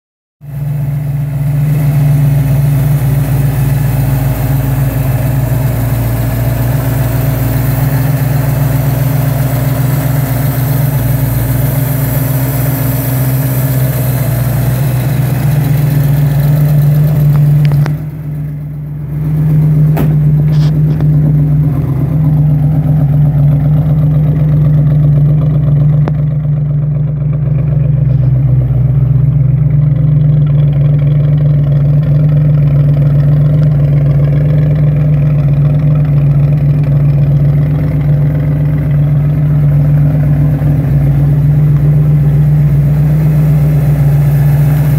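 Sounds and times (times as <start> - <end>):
pickup truck engine idling: 0.4 - 44.9.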